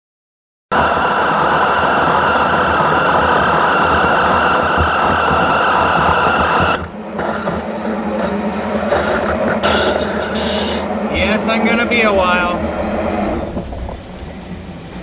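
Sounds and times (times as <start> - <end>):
lathe machining with hissing ring: 0.7 - 15.0.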